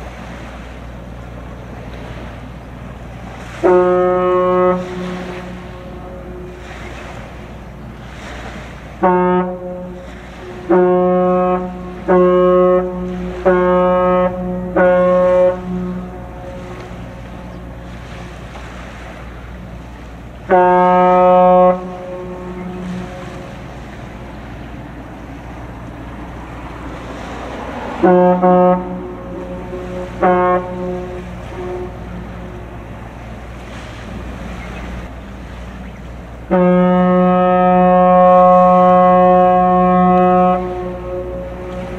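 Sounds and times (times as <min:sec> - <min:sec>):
low rumble of wind and water: 0:00.0 - 0:41.9
ship's horn blasts: 0:00.0 - 0:41.9.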